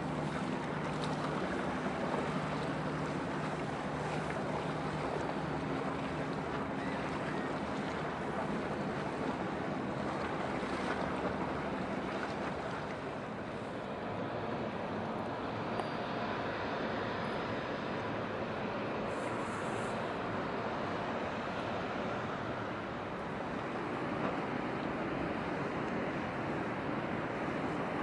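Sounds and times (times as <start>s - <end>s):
low ship engine hum: 0.0s - 28.0s
wind and water rushing: 0.0s - 28.0s.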